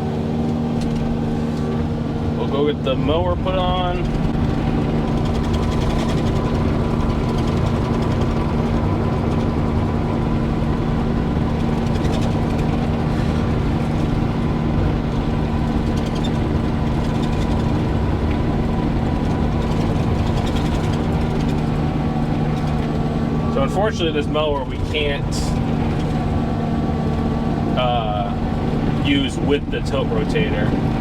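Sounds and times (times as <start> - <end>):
diesel engine humming: 0.0 - 31.0.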